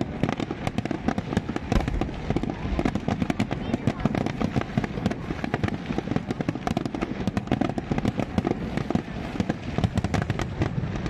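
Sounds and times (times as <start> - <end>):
fireworks bangs and crackling pops: 0.0 - 11.0.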